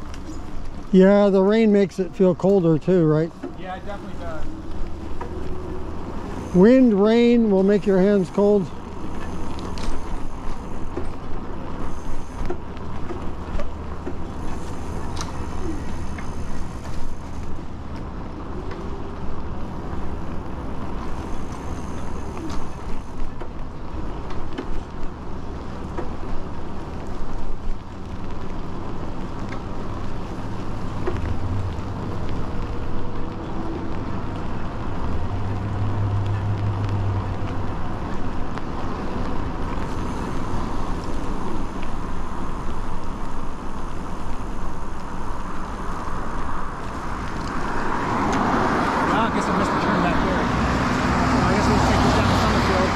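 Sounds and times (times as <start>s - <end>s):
wind rumbling on microphone: 3.2s - 52.9s.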